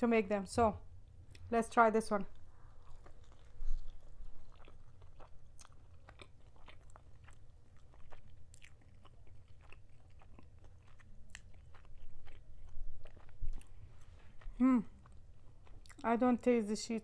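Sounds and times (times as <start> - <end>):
person chewing: 2.3 - 16.2.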